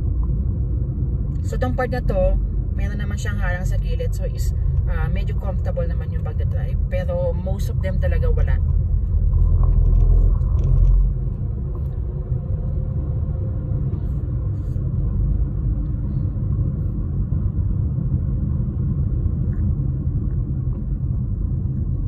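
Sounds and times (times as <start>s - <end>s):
car driving on paved road: 0.0s - 22.0s.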